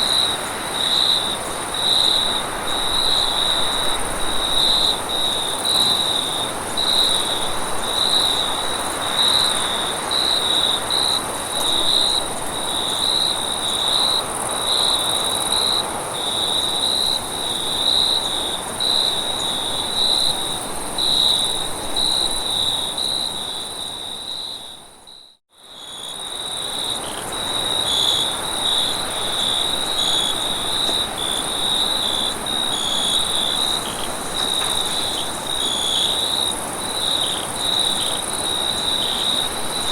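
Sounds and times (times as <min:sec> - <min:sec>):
crickets chirping: 0:00.0 - 0:39.9
high insect drone: 0:00.0 - 0:39.9.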